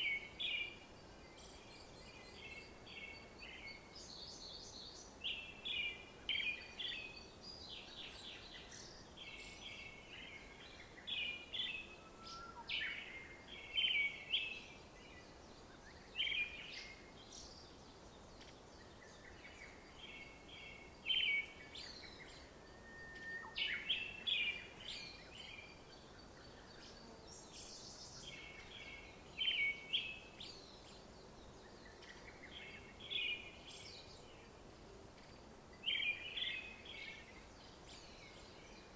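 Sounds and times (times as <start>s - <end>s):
birds singing and chirping: 0.0s - 34.5s, 35.2s - 38.9s
outdoor ambience: 0.0s - 38.9s.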